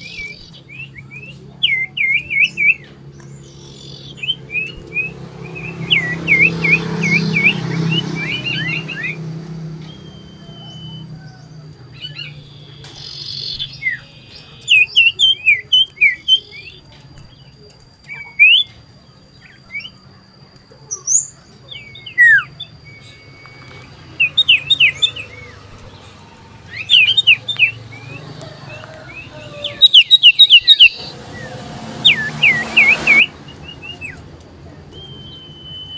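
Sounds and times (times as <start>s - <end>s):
bird whistling song bursts: 0.0s - 16.8s, 17.4s - 34.3s, 34.9s - 35.9s.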